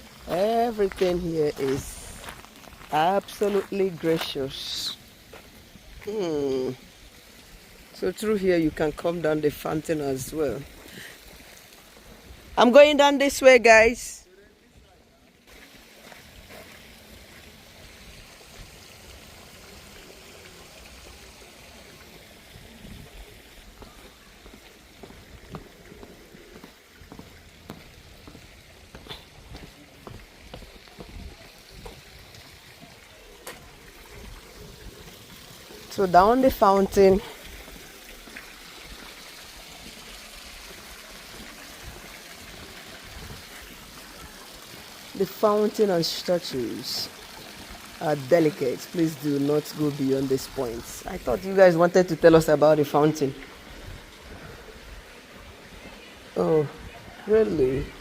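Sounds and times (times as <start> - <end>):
fountain water splashing: 0.0 - 58.0.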